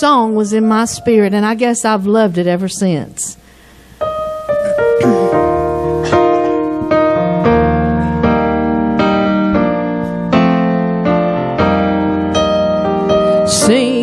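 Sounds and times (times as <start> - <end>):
piano chords: 0.0 - 3.1, 4.0 - 14.0
congregational worship song: 0.0 - 9.6, 11.7 - 14.0.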